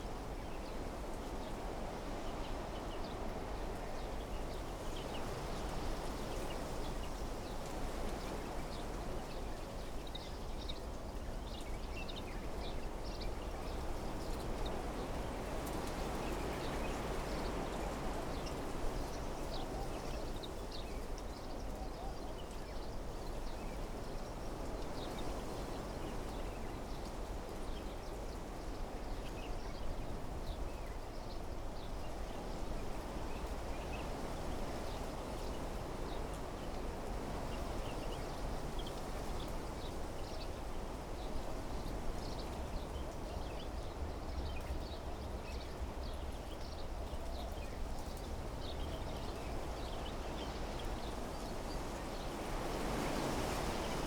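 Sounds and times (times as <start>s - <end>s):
wind through trees: 0.0s - 54.0s.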